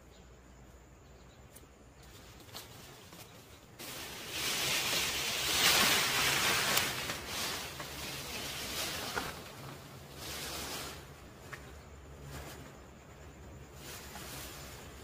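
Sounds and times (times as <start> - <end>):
rustling: 1.4 - 15.0.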